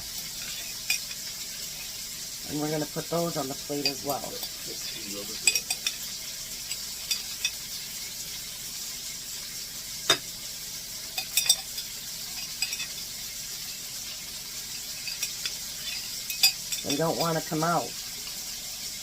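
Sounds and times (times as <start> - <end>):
meat patties sizzling in a skillet: 0.0 - 19.0.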